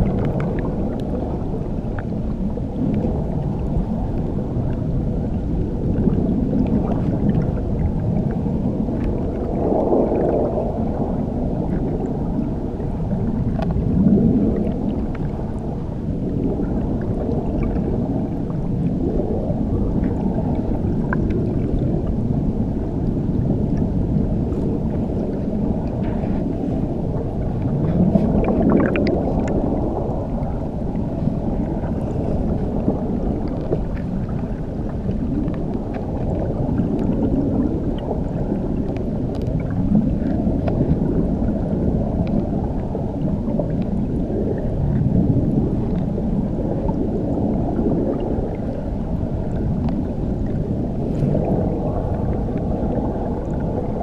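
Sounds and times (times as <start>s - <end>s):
muffled underwater churning water: 0.0s - 54.0s.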